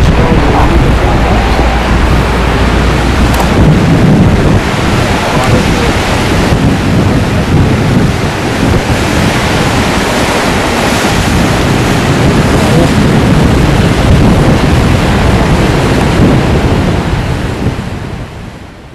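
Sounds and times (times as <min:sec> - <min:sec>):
whitewater rushing: 0:00.0 - 0:18.7.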